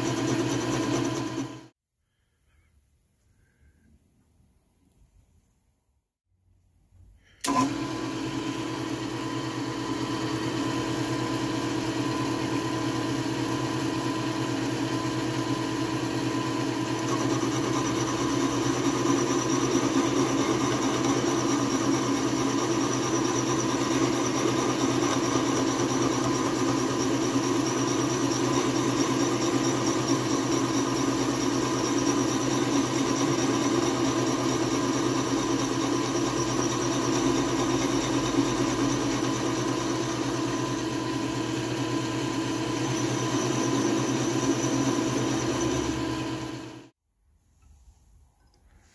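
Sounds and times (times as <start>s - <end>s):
milling machine humming: 0.0s - 1.7s, 7.4s - 46.9s.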